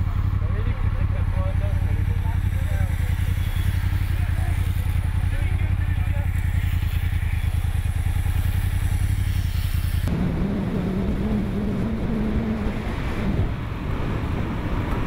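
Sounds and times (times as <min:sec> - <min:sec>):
vehicle engine rumbling: 0:00.0 - 0:15.0
wind and road rush: 0:00.0 - 0:15.0.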